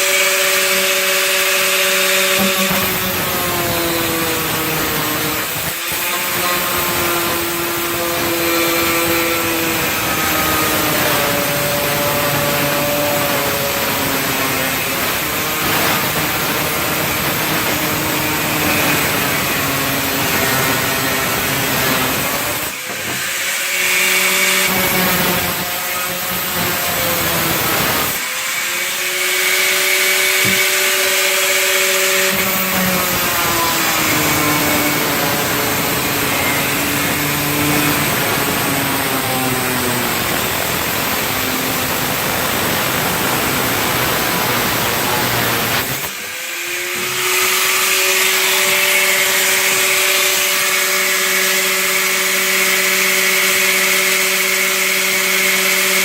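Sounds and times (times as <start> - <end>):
grinder cutting sheet metal: 0.0 - 56.0.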